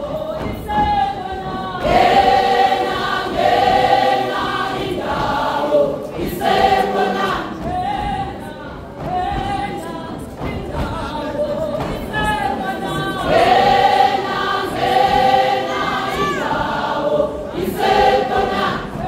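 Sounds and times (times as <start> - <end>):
women's choir singing: 0.0 - 19.0.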